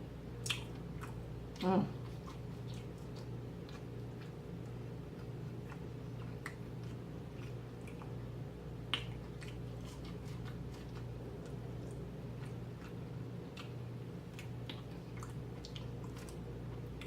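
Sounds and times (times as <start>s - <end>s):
chewing and mouth smacking: 0.4s - 17.0s.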